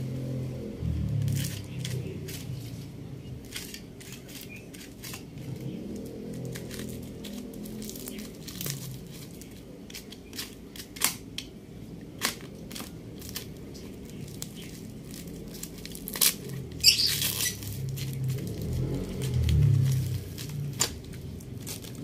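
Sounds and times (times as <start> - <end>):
paper ripping: 1.0 - 11.2, 12.2 - 22.0
paper crinkling: 1.1 - 11.2, 12.2 - 22.0.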